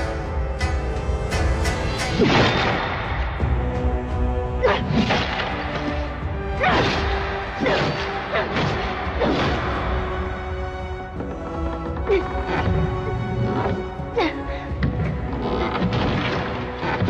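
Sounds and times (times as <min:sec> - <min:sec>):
dramatic background music: 0:00.0 - 0:17.0.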